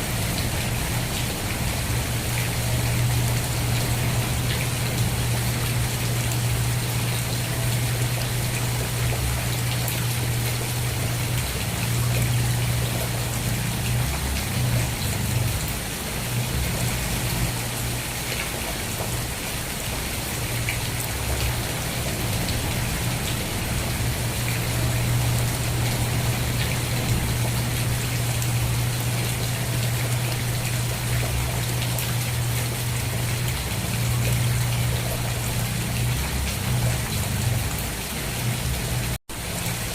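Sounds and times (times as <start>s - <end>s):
constant low rumble: 0.0s - 39.9s
rain pattering: 0.0s - 39.9s.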